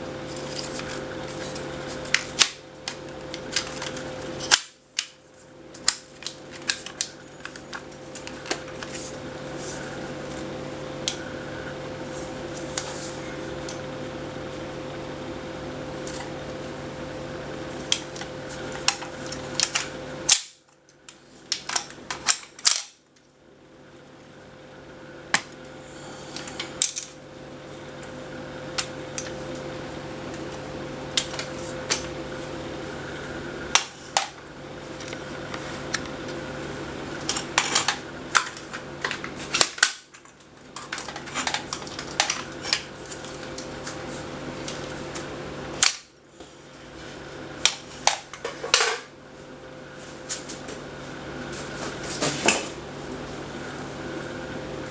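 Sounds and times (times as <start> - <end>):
steady background hum: 0.0 - 54.9.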